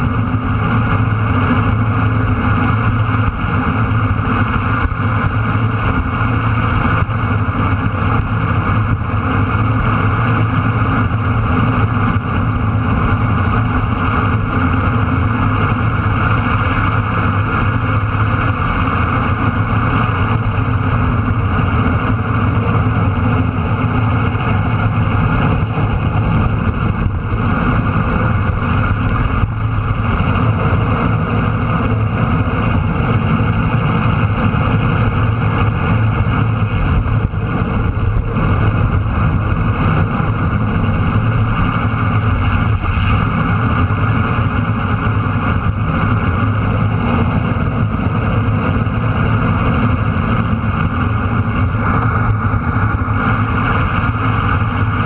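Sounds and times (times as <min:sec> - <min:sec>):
motorcycle engine drone: 0:00.0 - 0:55.0
wind rushing: 0:00.0 - 0:55.0.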